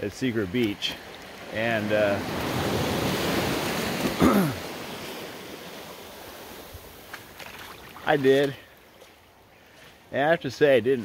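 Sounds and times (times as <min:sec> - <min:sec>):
ocean surf on a beach: 0:00.0 - 0:11.0.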